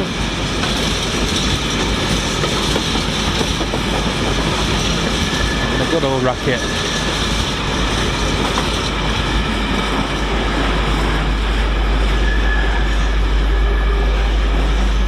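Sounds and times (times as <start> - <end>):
wheels running on rails: 0.0 - 13.1
diesel locomotive engine rumble: 0.0 - 15.0.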